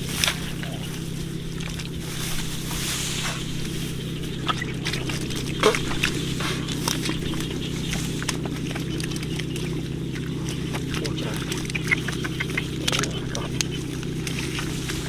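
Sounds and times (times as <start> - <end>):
steady low hum: 0.0 - 15.0
water sloshing and splashing: 0.0 - 15.0.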